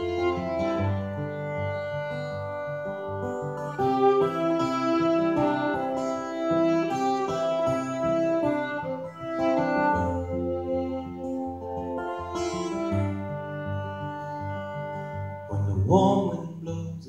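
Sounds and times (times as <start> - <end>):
fiddle holding long notes: 0.0 - 16.4
acoustic guitar accompaniment: 0.0 - 17.0.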